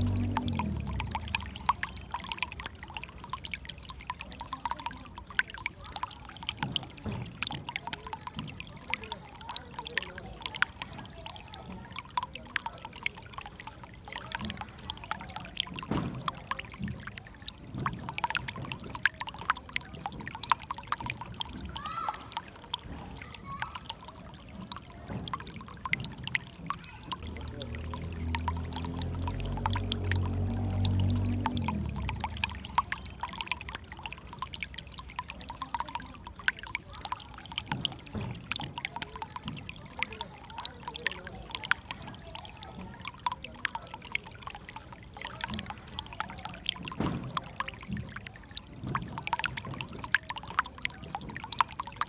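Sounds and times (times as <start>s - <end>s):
water trickling over stones: 0.0s - 52.0s.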